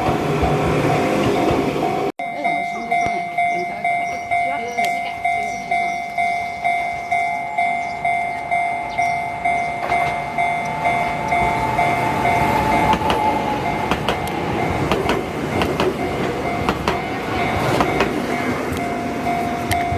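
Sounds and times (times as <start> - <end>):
level-crossing bell ringing: 0.0 - 19.9
train rumbling past: 0.0 - 19.9
wheels clacking on rail joints: 0.0 - 19.9.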